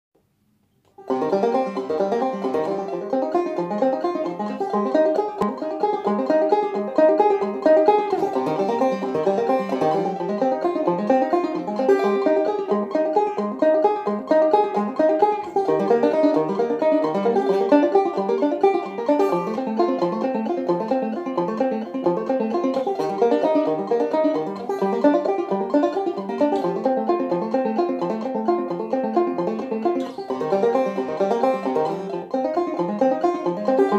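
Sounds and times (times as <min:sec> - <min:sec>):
banjo plucked arpeggios: 0:00.9 - 0:33.9.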